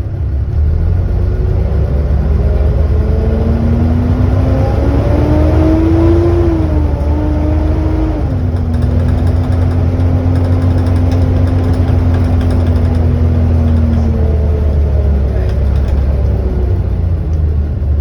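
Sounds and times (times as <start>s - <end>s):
bus engine rumble: 0.0s - 18.0s
loud engine whine: 0.0s - 18.0s.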